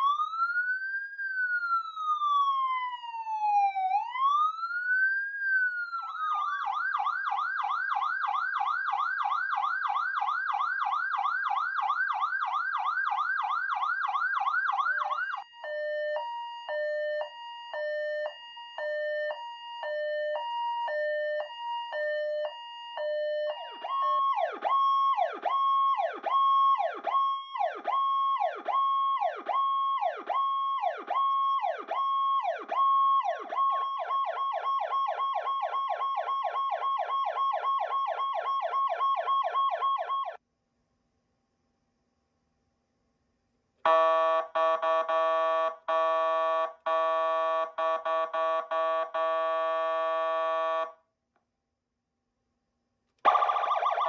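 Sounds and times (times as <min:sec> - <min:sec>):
electronic emergency siren: 0:00.0 - 0:40.4, 0:43.8 - 0:51.0, 0:53.2 - 0:54.0.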